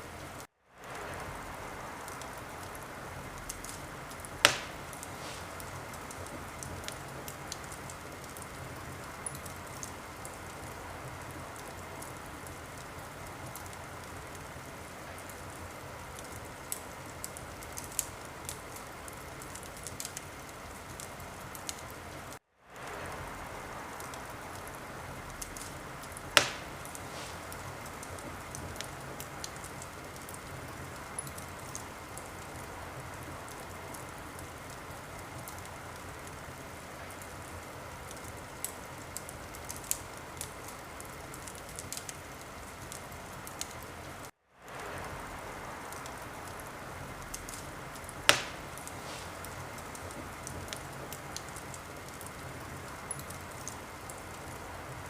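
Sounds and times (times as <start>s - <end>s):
fire popping: 0.0s - 55.0s
steady hiss: 0.0s - 55.0s
wood fire crackling: 0.0s - 55.0s.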